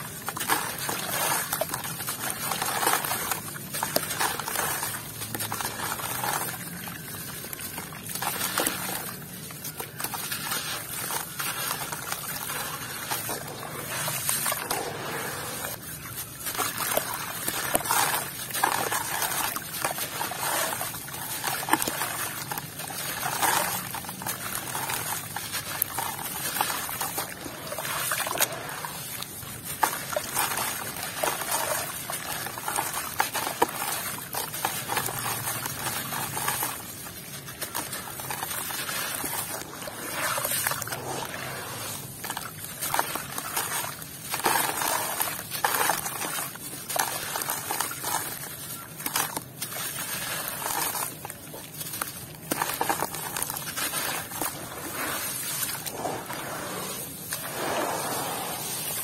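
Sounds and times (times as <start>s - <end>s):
grit splashing into water: 0.0s - 59.0s
wet sand crumbled by hand: 0.1s - 59.0s.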